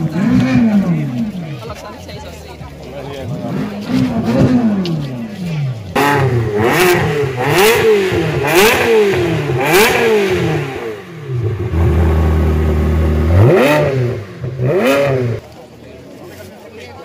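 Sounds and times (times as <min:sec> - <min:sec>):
car engine revving: 0:00.0 - 0:01.7, 0:03.2 - 0:15.5
car engine idling: 0:00.0 - 0:15.6.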